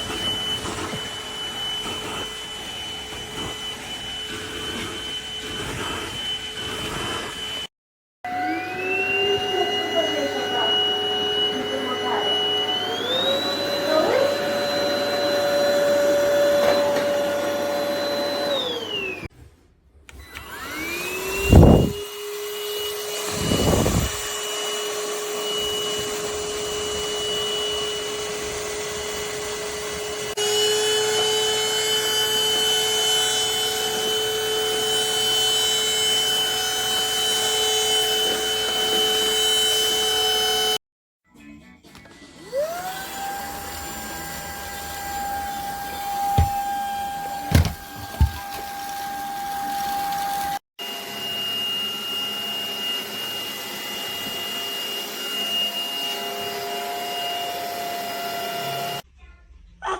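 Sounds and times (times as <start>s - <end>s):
stick vacuum cleaner whining: 0.0s - 7.7s, 8.3s - 19.3s, 20.1s - 40.8s, 42.0s - 59.0s.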